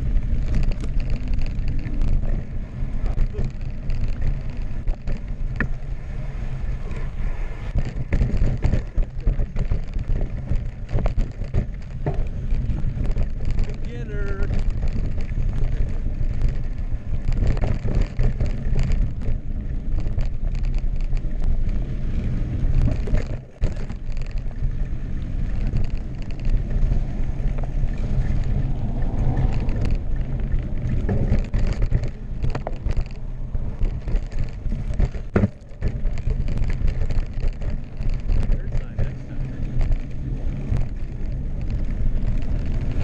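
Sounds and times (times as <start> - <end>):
bike knocks and rattles: 0.0 - 43.0
tyres rolling over dirt: 0.0 - 43.0
wind buffeting microphone: 0.0 - 43.0.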